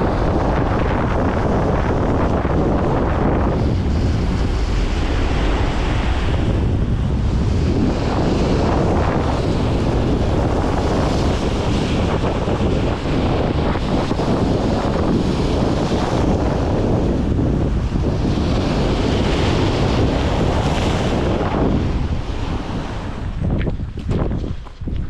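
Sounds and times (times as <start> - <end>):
sea waves washing: 0.0 - 24.7
wind buffeting the microphone: 0.0 - 25.0.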